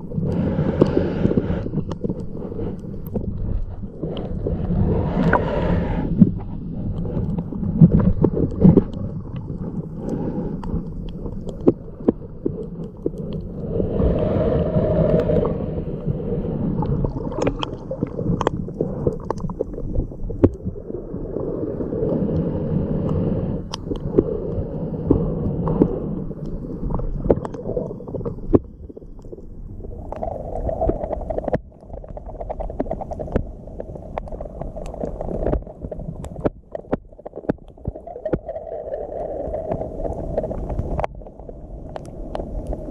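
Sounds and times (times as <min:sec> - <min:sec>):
muffled underwater water sloshing: 0:00.0 - 0:42.9.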